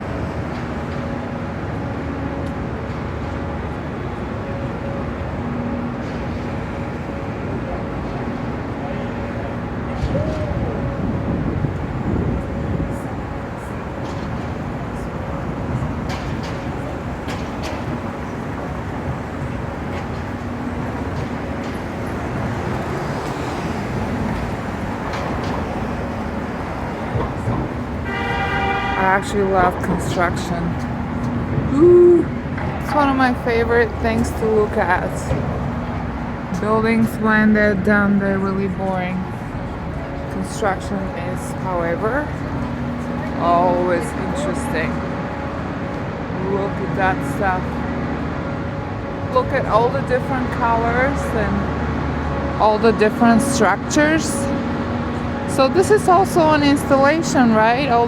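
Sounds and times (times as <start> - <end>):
engine-like hum: 0.0 - 58.0
traffic and machinery noise: 0.0 - 58.0.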